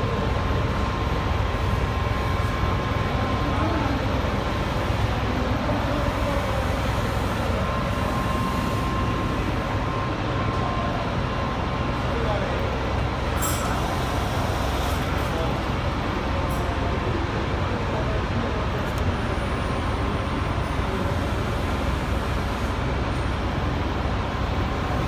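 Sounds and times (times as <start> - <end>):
faint thin machine whine: 0.0 - 25.0.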